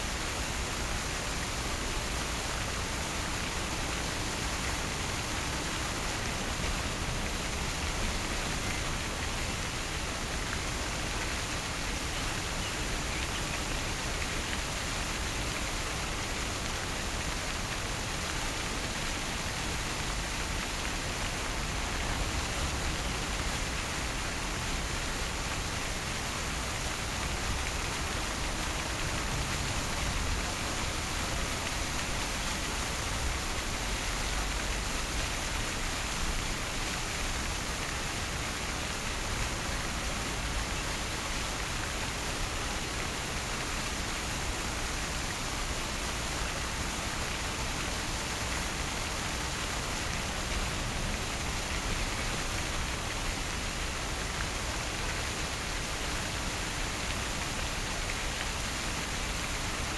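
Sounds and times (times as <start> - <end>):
fountain water splashing: 0.0 - 59.9.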